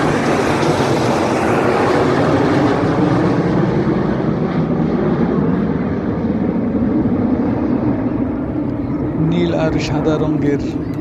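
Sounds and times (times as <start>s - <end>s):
jet aircraft flying past: 0.0s - 11.0s.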